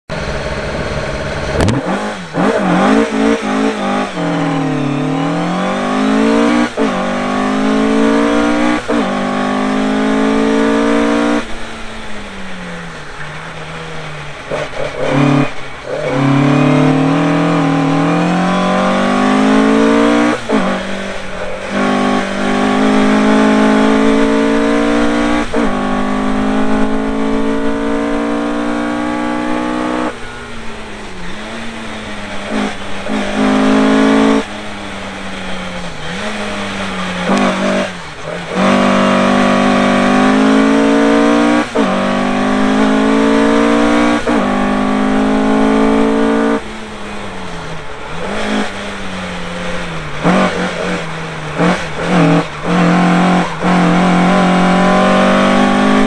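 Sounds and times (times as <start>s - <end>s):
race car engine accelerating: 0.1s - 56.0s.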